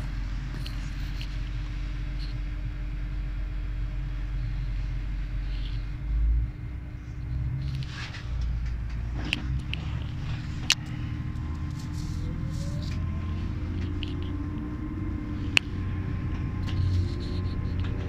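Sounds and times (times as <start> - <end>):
train engine and wheels rumbling: 0.0 - 18.0.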